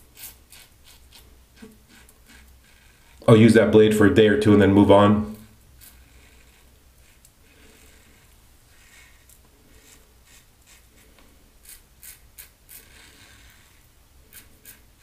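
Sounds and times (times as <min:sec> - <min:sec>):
razor scraping stubble: 0:00.0 - 0:03.5, 0:04.6 - 0:15.0.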